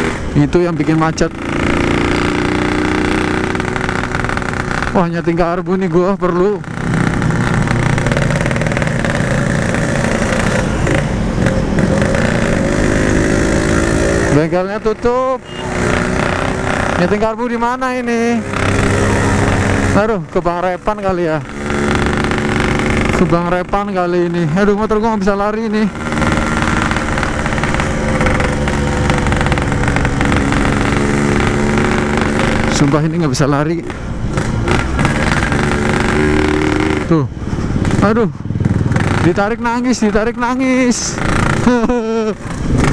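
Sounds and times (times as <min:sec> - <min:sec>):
two-stroke motorcycle engine running: 0:00.0 - 0:42.9.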